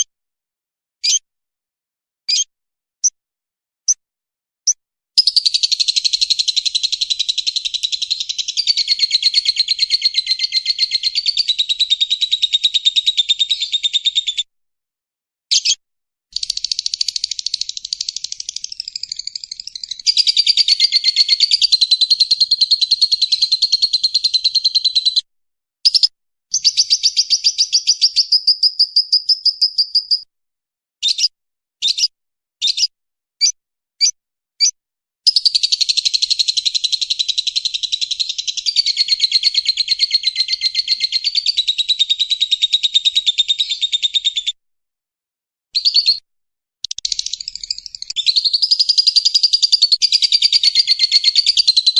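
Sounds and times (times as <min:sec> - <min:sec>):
bird chirping: 0:01.0 - 0:01.2, 0:02.3 - 0:02.5, 0:05.2 - 0:14.5, 0:15.5 - 0:15.8, 0:16.4 - 0:25.2, 0:25.9 - 0:30.3, 0:31.0 - 0:34.7, 0:35.3 - 0:44.6, 0:45.8 - 0:46.2, 0:46.8 - 0:51.9.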